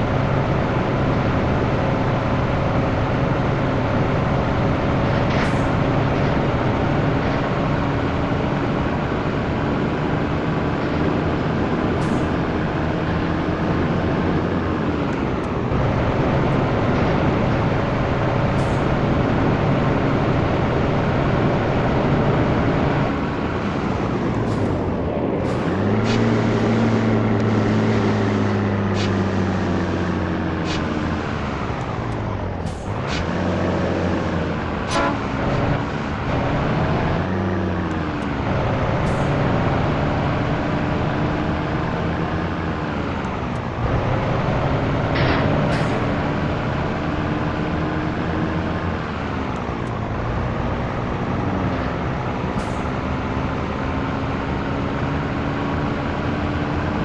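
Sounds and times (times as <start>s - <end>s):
diesel truck engine pulling: 0.0s - 57.0s.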